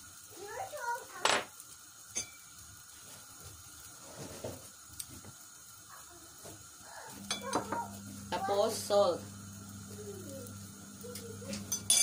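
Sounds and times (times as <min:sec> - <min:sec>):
stew simmering hiss: 0:00.0 - 0:12.0.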